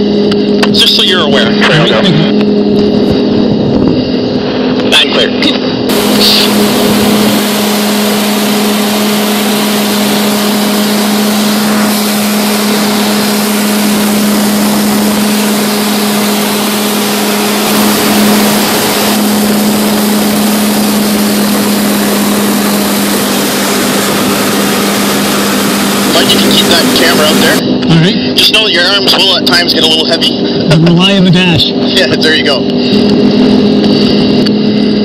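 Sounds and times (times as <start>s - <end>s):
jet engine and airflow rush: 0.0s - 35.0s.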